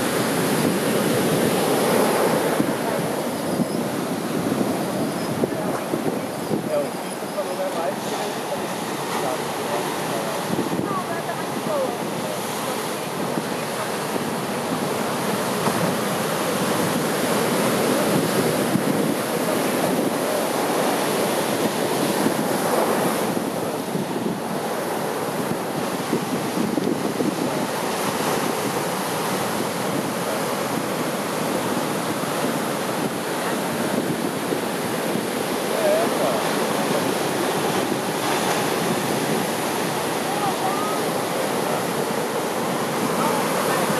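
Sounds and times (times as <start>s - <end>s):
surf breaking on beach: 0.0s - 43.9s.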